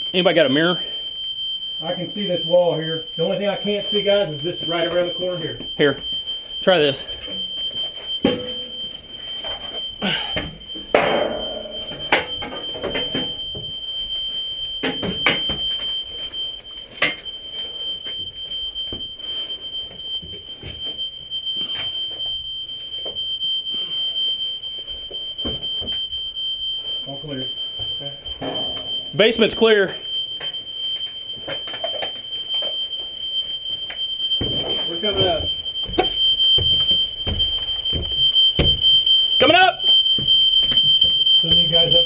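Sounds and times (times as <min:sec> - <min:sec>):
smoke alarm tone: 0:00.0 - 0:42.0.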